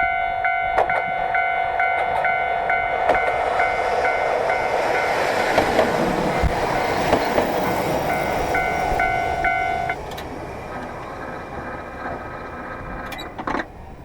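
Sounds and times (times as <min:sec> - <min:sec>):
crossing warning bell ringing: 0:00.0 - 0:14.0
train wheels clattering on rails: 0:00.0 - 0:14.0.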